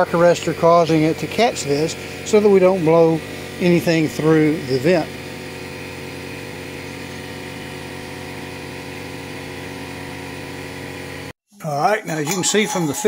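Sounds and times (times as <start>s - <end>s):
motor humming: 0.0s - 11.3s.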